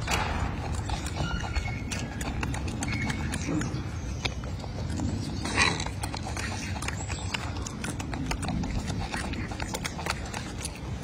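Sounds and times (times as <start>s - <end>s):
monkey chewing with wet smacks: 0.0s - 11.0s.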